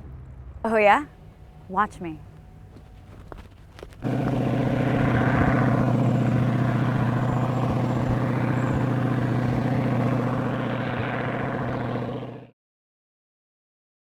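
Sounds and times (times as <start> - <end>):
airplane engine droning: 0.0 - 12.5.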